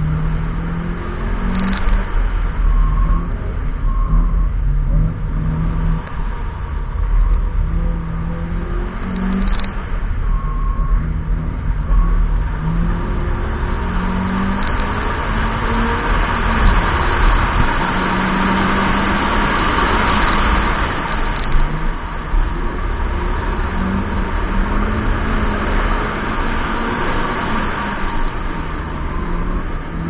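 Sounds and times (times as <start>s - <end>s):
car engine revving: 0.0s - 30.0s
wind and tyre noise: 0.0s - 30.0s.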